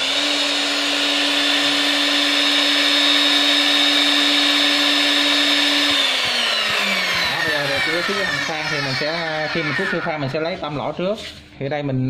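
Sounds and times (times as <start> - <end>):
magnetic drill motor whine: 0.0 - 11.0.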